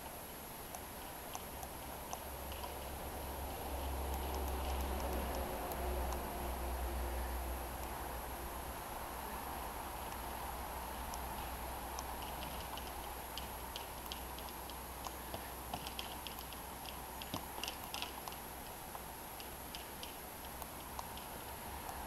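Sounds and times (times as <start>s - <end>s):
light ticks and clicks: 0.0s - 6.7s, 10.0s - 22.0s.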